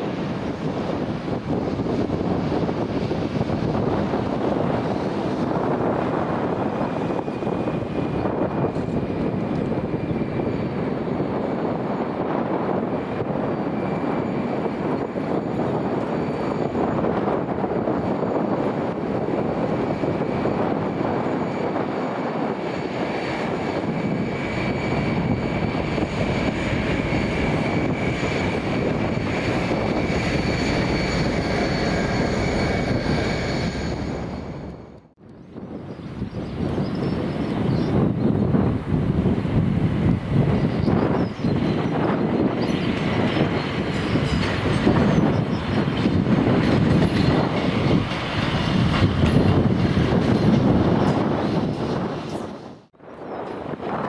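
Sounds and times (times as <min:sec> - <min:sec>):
high-pitched train whines: 0:00.0 - 0:54.0
train rumbling: 0:00.0 - 0:54.0.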